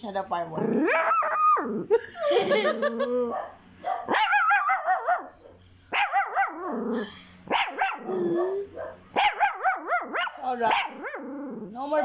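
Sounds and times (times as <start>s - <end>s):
small dog howling: 0.7s - 1.9s, 2.8s - 11.7s.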